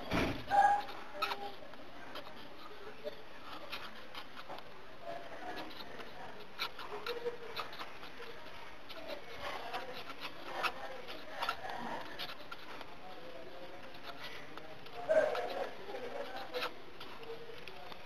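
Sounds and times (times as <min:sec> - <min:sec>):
marker pen scratching on paper: 0:00.0 - 0:18.0.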